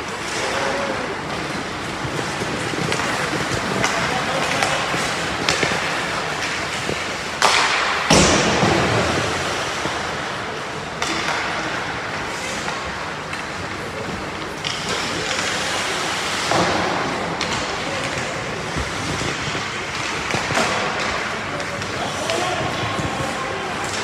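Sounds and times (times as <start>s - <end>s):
skates scraping on ice: 0.0s - 24.0s
sticks and puck clacking: 0.0s - 24.0s.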